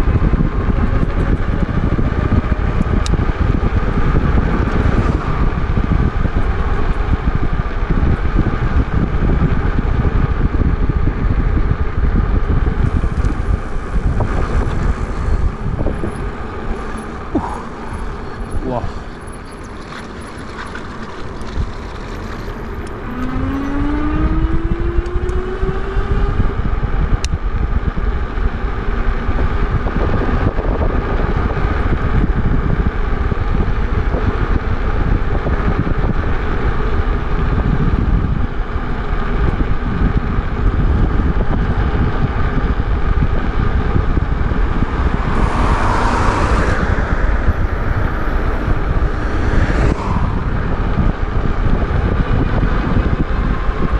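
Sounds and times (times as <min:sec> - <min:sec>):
road noise: 0:00.0 - 0:53.9
wind rushing over microphone: 0:00.0 - 0:53.9.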